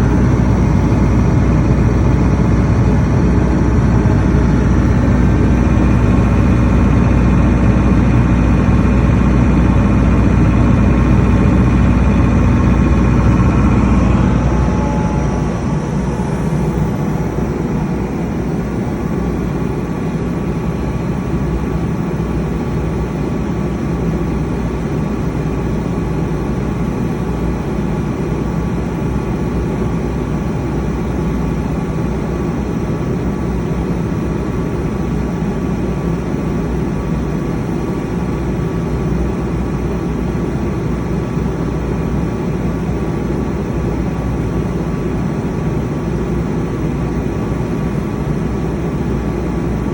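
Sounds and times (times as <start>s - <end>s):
diesel generator running: 0.0s - 49.9s.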